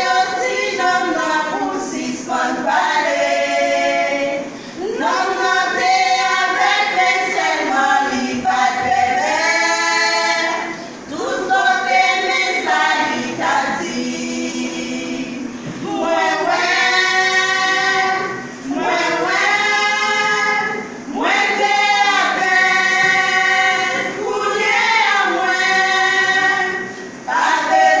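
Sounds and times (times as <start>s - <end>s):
vocal group singing gospel: 0.0s - 28.0s.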